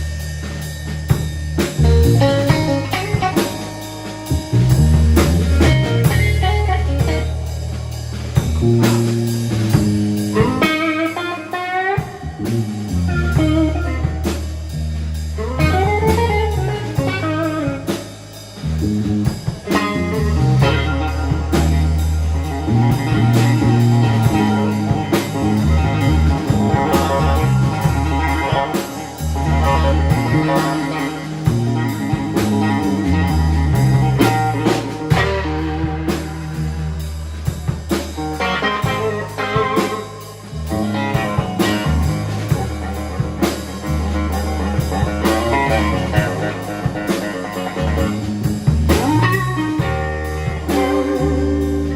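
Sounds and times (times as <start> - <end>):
drum kit: 0.0 - 51.9
electric bass: 0.0 - 51.9
electric guitar melody: 0.0 - 51.9.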